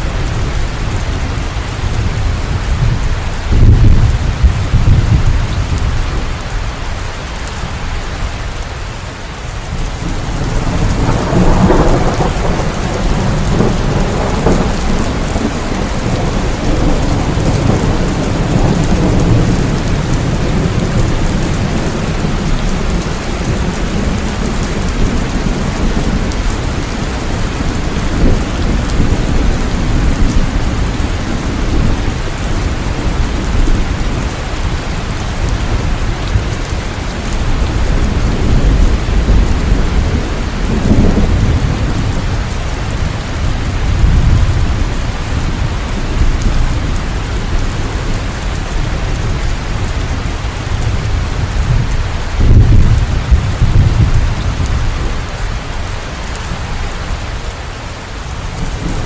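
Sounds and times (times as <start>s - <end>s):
rolling thunder: 0.0s - 6.4s, 9.8s - 55.7s
heavy rain: 0.0s - 59.0s.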